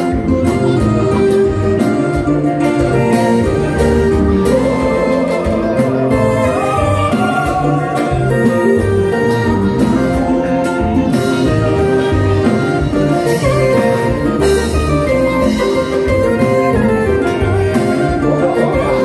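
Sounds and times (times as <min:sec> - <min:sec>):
conga and drum groove: 0:00.0 - 0:19.0
electric guitars: 0:00.0 - 0:19.0
live band playing: 0:00.0 - 0:19.0.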